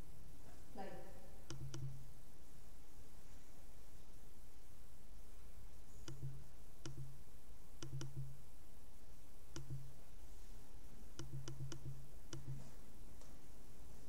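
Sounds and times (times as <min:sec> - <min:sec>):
low electrical hum and hiss: 0:00.0 - 0:14.0.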